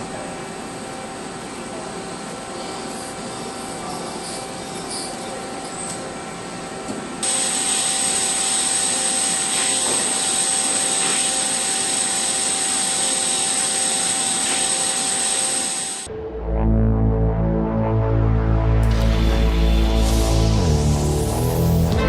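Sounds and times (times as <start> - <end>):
machine hiss and whine: 0.0 - 16.1, 18.9 - 22.0.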